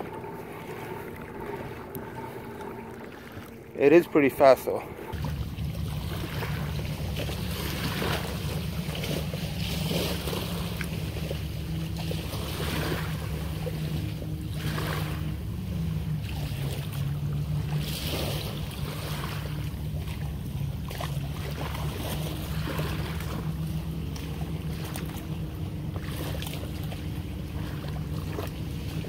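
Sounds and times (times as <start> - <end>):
low steady hum: 0.0 - 29.0
small waves lapping at shore: 0.0 - 29.0.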